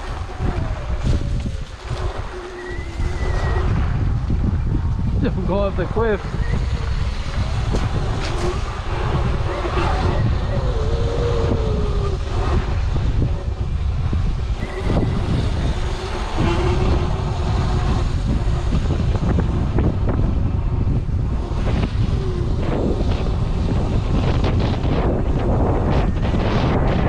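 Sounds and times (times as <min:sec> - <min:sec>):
electric motor whine: 0:00.0 - 0:27.0
wind buffeting microphone: 0:00.0 - 0:27.0.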